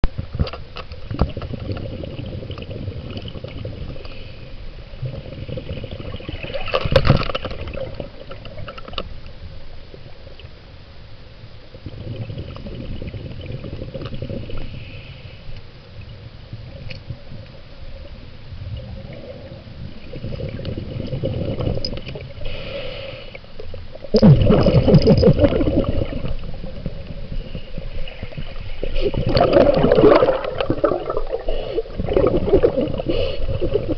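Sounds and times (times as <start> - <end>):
water gurgling and sloshing: 0.0 - 33.9.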